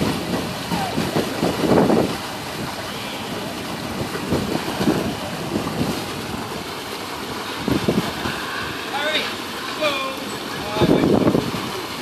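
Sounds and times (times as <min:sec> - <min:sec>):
wind noise on microphone: 0:00.0 - 0:06.7, 0:07.3 - 0:08.9, 0:10.6 - 0:12.0.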